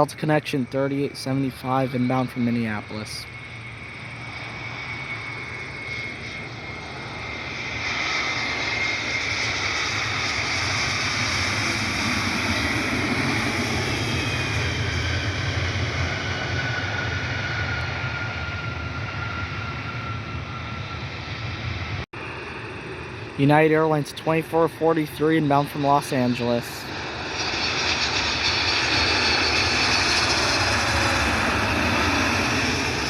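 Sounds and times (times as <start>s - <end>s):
jet engines passing: 0.0s - 33.0s.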